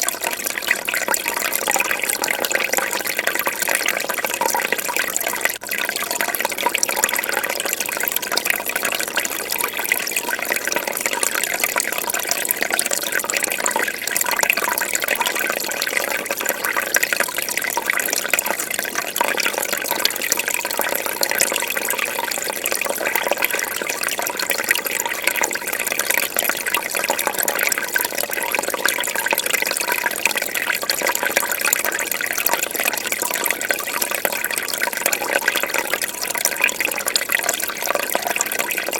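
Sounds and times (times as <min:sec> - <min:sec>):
fish tank water bubbling: 0:00.0 - 0:38.9.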